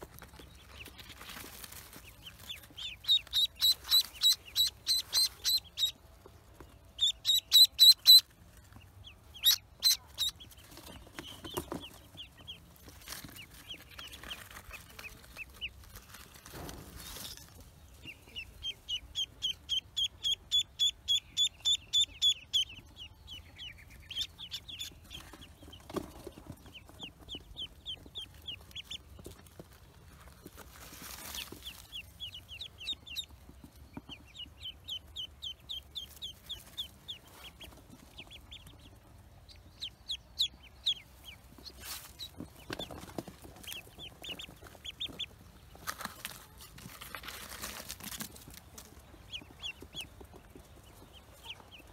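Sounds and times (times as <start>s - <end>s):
ducklings peeping: 0.0s - 51.9s.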